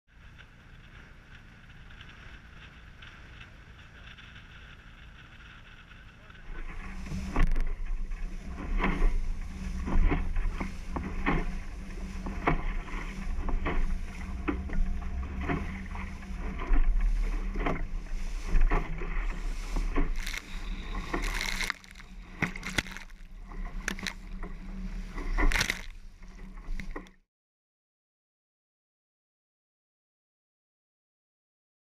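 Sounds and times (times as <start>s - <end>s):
wind rumble on microphone: 0.1s - 27.2s
water slapping against hull: 0.4s - 27.2s.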